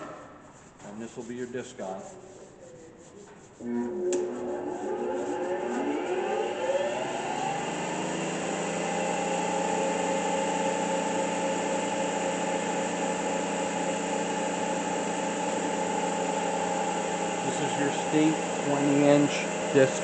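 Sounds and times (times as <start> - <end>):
electric motor whining and humming: 3.7 - 20.0.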